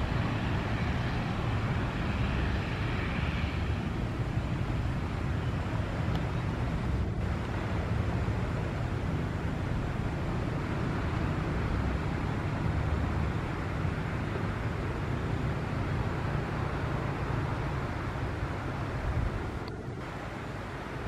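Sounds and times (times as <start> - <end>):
turboprop airliner engines droning: 0.0 - 21.0.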